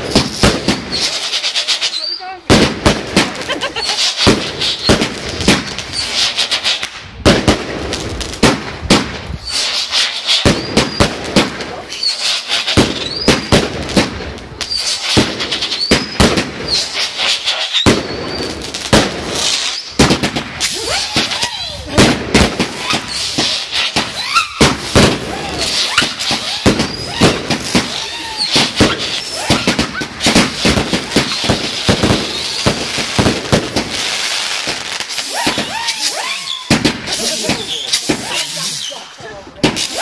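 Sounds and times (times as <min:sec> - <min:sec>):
rising firework whistles: 0:00.0 - 0:07.0, 0:07.8 - 0:40.0
fireworks bangs and crackling: 0:00.0 - 0:40.0.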